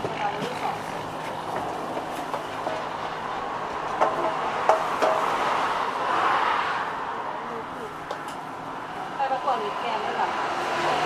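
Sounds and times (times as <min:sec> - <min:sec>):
road traffic noise: 0:00.0 - 0:11.0
vehicle passing: 0:00.2 - 0:11.0.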